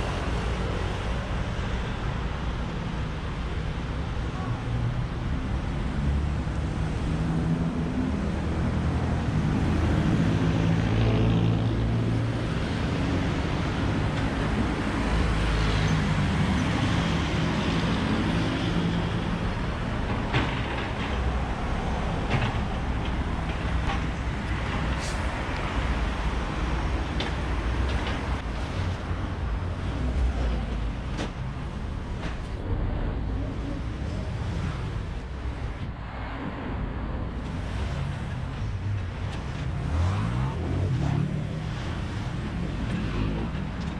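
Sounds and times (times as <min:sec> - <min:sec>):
road traffic passing: 0:00.0 - 0:43.9.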